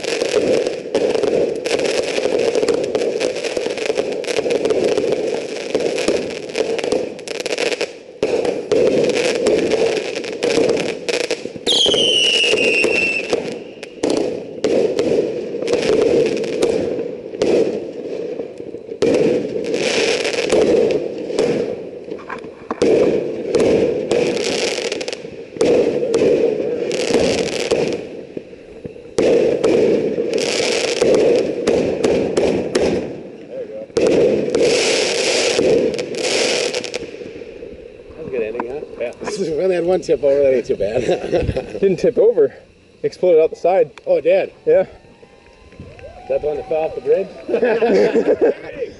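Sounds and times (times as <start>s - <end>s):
fireworks bangs and crackling: 0.0s - 48.8s
falling firework whistle: 0.0s - 48.9s.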